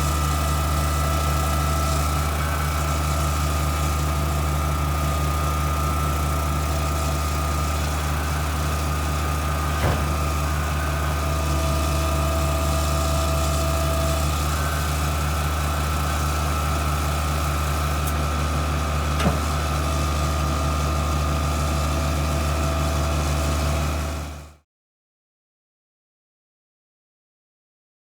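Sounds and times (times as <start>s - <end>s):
concrete pump engine running: 0.0s - 24.6s.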